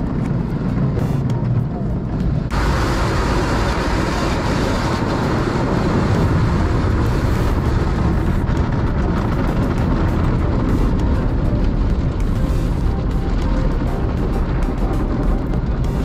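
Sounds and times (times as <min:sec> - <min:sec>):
car wash water jets and brushes: 0:00.0 - 0:16.0.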